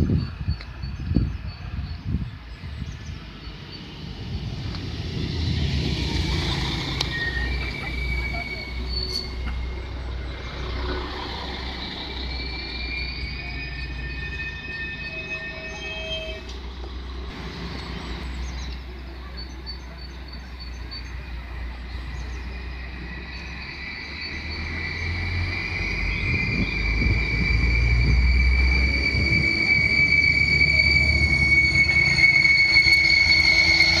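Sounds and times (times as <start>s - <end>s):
low train engine rumble: 0.0s - 34.0s
high steady squeal: 3.0s - 16.6s, 17.5s - 34.0s.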